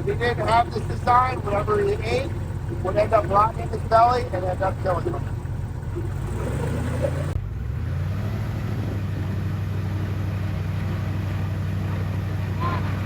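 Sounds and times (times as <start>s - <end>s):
airboat engine and propeller drone: 0.0s - 13.0s.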